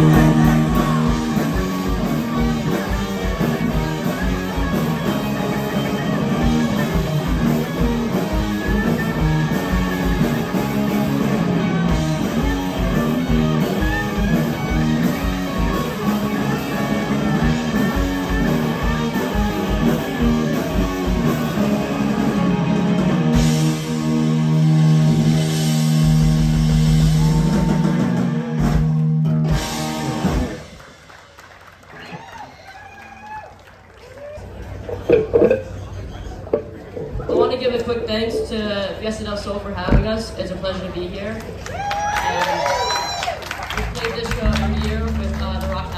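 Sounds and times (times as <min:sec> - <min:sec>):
rock band playing: 0:00.0 - 0:31.5, 0:34.7 - 0:40.3, 0:43.6 - 0:45.9.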